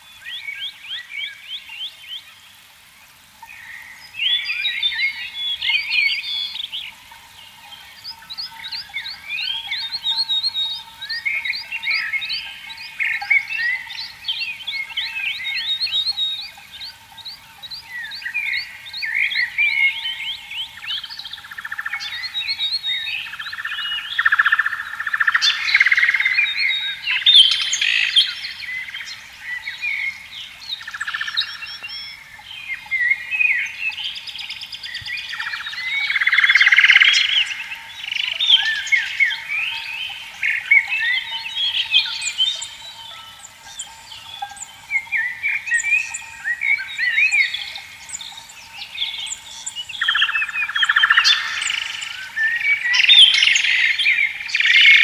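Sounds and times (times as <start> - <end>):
frogs calling: 3.4 - 55.0
birds chirping and singing: 4.3 - 55.0.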